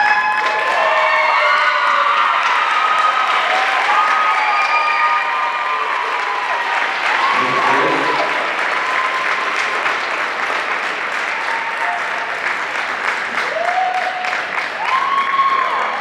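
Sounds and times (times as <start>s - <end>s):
audience applauding: 0.0s - 16.0s
people cheering: 0.0s - 16.0s.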